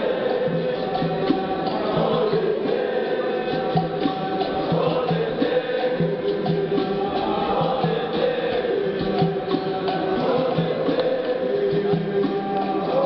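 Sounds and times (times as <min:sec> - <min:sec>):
crowd clapping a beat: 0:00.0 - 0:13.0
crowd singing in chorus: 0:00.0 - 0:13.0.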